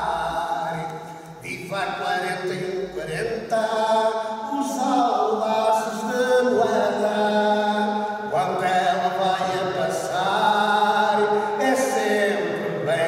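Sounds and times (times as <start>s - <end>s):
man singing slowly: 0.0s - 13.0s.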